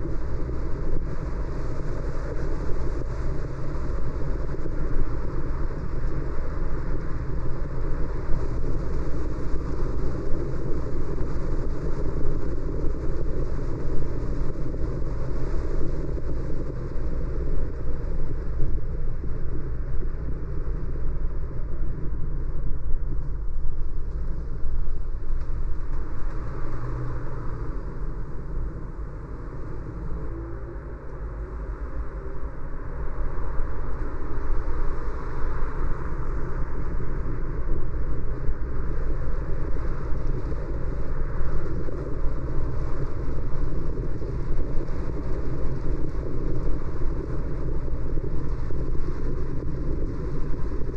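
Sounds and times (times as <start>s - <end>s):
car road and tyre noise: 0.0s - 50.9s.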